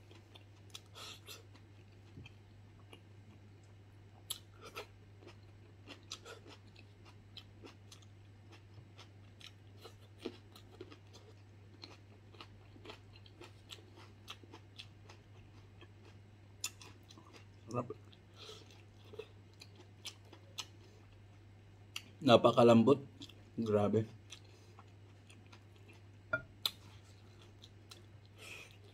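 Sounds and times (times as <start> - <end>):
chewing with wet mouth clicks: 0.1 - 21.2, 24.3 - 28.9.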